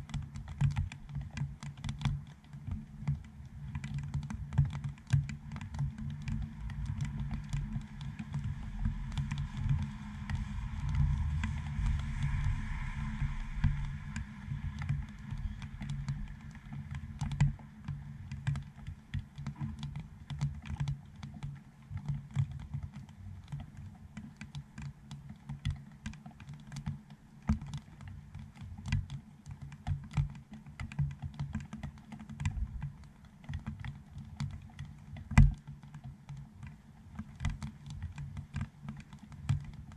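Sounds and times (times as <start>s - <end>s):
raindrops tapping on camera housing: 0.0s - 39.9s.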